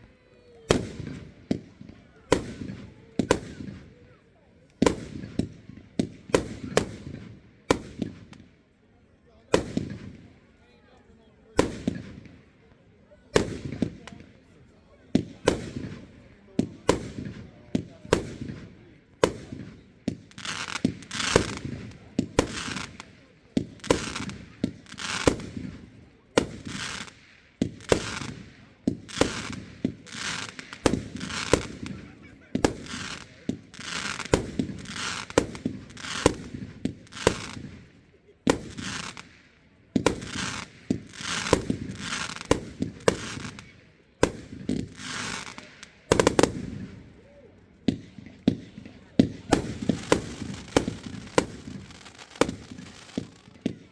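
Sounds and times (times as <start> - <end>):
fireworks bangs: 0.7 - 4.0, 4.8 - 8.4, 15.2 - 47.1, 47.9 - 53.9.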